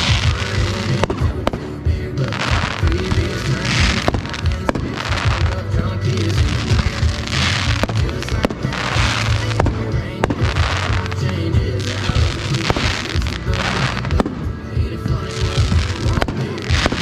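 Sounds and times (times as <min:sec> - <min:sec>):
background music: 0:00.0 - 0:17.0
fireworks bangs: 0:00.0 - 0:17.0
fireworks crackling bursts: 0:00.0 - 0:17.0.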